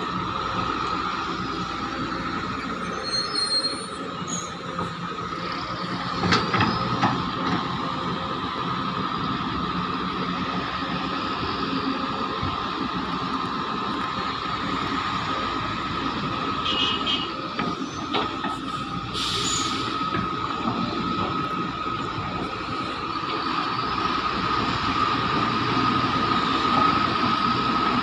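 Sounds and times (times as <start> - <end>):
excavator engine and hydraulic drone: 0.0 - 28.0.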